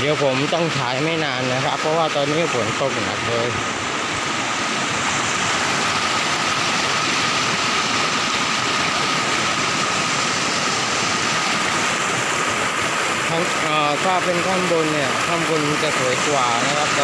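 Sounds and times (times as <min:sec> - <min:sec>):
heavy rain: 0:00.0 - 0:17.0
stream cascading over boulders: 0:00.0 - 0:17.0.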